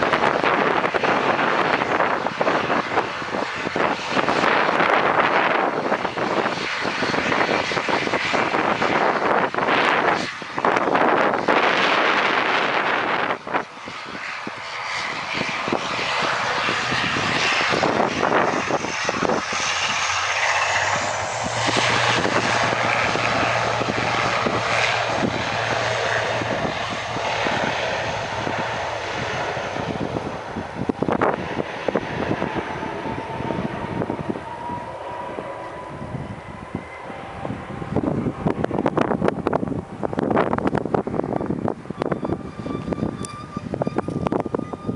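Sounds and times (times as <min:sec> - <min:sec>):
turboprop engines droning: 0:00.0 - 0:44.9.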